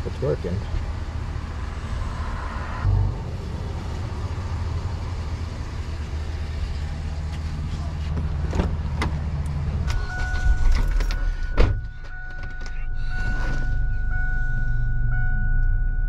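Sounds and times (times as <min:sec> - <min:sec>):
low rumble: 0:01.0 - 0:16.0.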